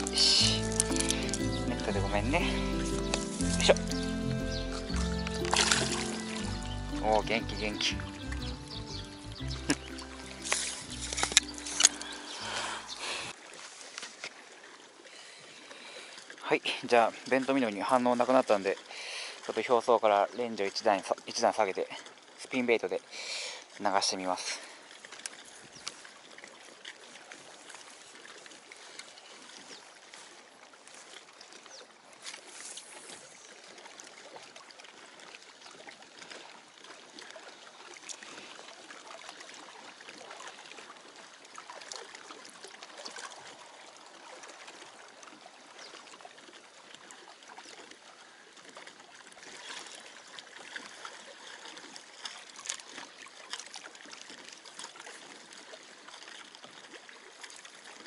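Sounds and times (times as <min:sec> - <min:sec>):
small water splashes: 0:00.0 - 0:58.0
waves lapping against a wall: 0:09.8 - 0:58.0.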